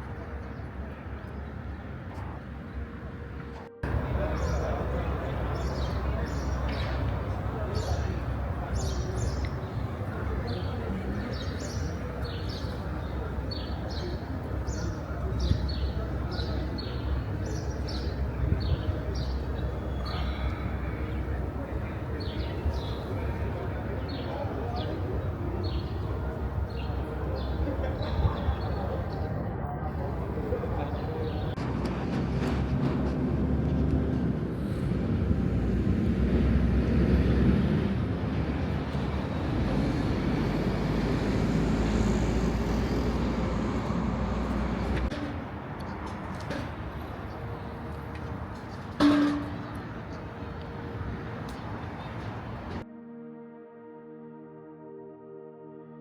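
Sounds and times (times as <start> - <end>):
low rumble of street noise: 0.0 - 52.9.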